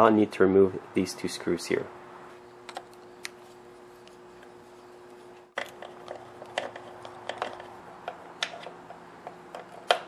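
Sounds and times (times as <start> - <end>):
workshop hum: 0.0 - 10.0.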